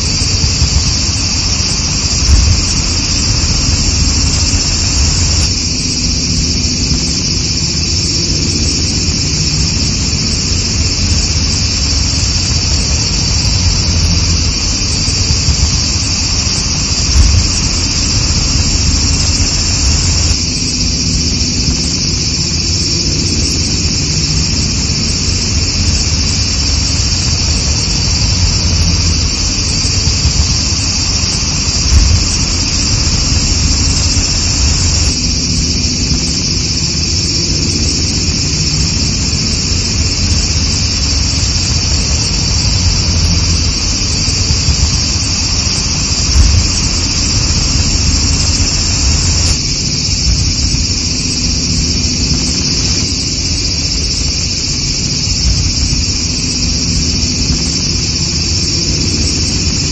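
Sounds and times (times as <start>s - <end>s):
low rumble: 0.0s - 53.6s
cicadas singing: 0.0s - 59.9s.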